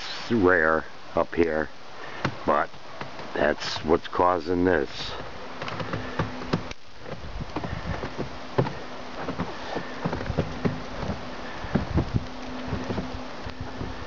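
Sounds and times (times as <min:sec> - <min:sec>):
faint steady hum: 0:00.0 - 0:14.0
steady hiss: 0:00.0 - 0:14.0
snow pattering on microphone: 0:02.1 - 0:14.0.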